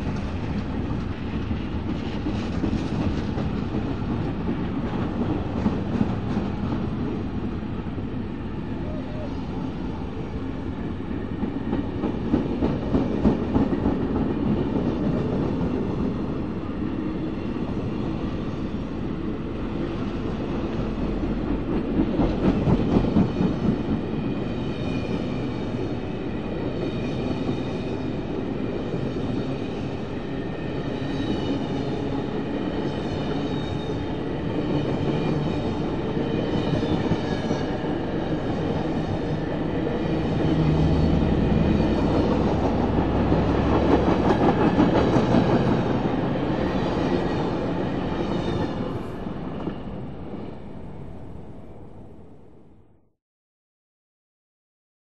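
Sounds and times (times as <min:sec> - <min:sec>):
train wheels rumbling on rail: 0:00.0 - 0:51.6.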